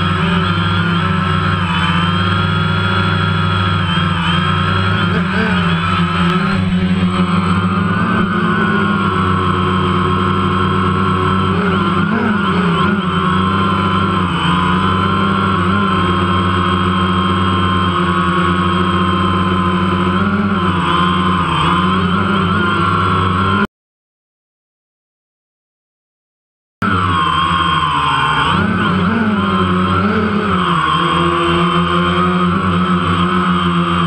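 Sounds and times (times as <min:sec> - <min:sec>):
drone propellers whining: 0:00.0 - 0:23.7, 0:26.8 - 0:34.0.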